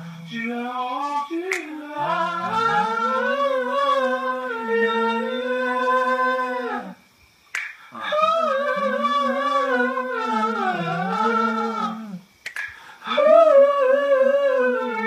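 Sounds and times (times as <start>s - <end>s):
a cappella harmony singing: 0.0s - 7.0s, 7.6s - 15.0s.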